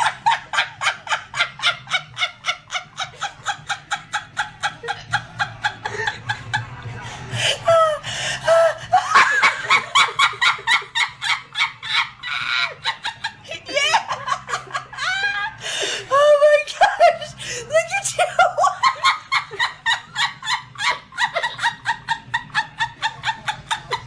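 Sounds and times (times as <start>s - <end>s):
person laughing hard: 0.0s - 6.7s, 7.3s - 24.0s.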